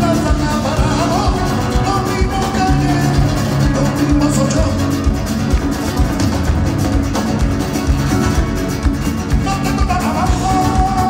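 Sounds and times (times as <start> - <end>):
flamenco band playing live: 0.0 - 11.0.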